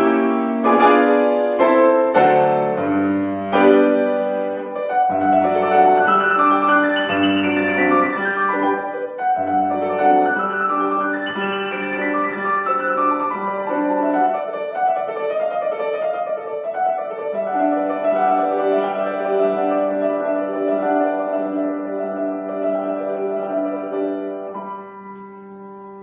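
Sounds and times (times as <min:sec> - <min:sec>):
piano playing classical chords: 0:00.0 - 0:26.0.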